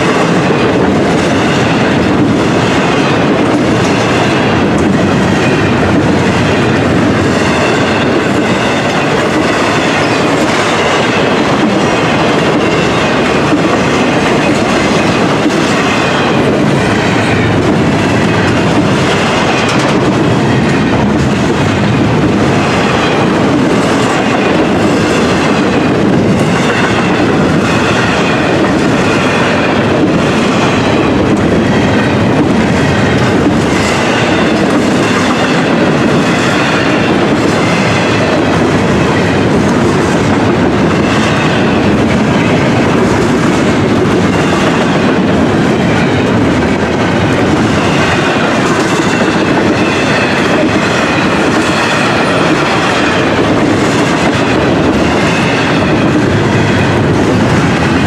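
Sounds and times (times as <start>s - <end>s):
clacking over rail joints: 0.0s - 58.0s
train wheels rumbling on rail: 0.0s - 58.0s.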